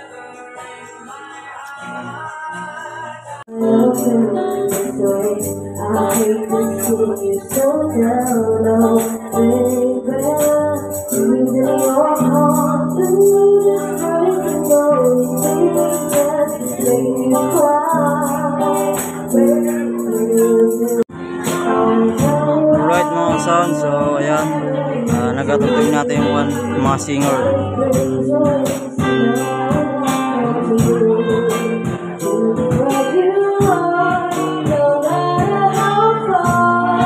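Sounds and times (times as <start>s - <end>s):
song over pa speakers: 0.0s - 37.0s.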